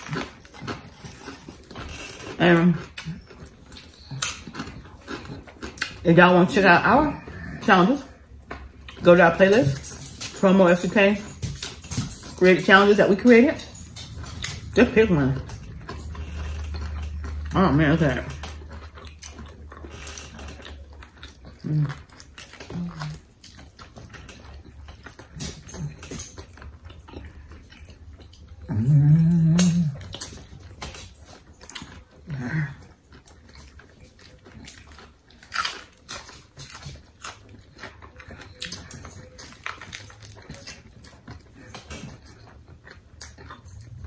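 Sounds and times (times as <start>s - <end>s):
chewing and wet mouth noises: 0.0s - 44.0s.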